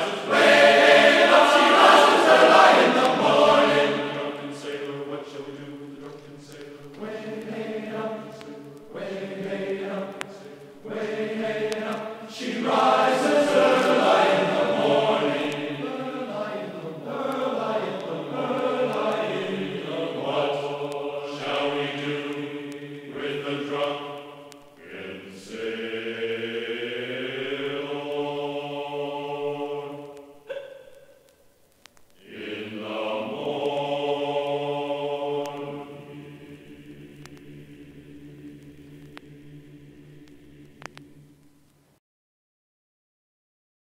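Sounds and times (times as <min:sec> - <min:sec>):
choral chant: 0:00.0 - 0:31.2, 0:32.2 - 0:41.6.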